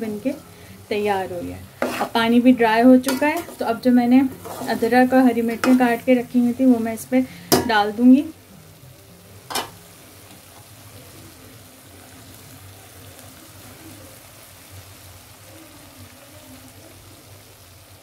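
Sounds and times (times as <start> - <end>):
lentils sizzling in a metal pot: 0.0 - 18.0.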